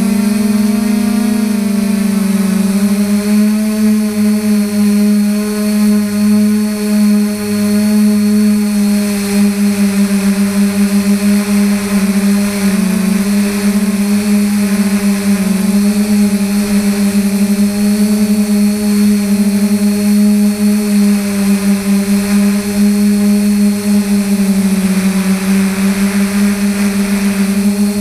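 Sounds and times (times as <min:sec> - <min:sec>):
drone propellers buzzing: 0:00.0 - 0:28.0.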